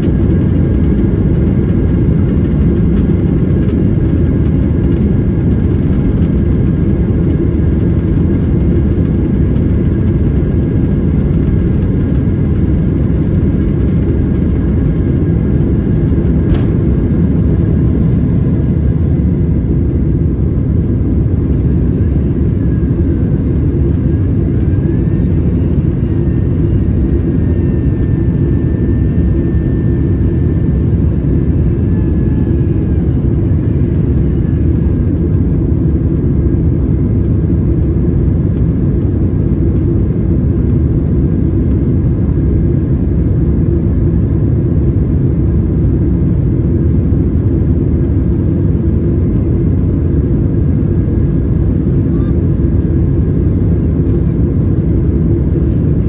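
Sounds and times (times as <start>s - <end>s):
faint whine: 0.0s - 43.5s, 46.6s - 56.0s
jet engine rumble in cabin: 0.0s - 56.0s.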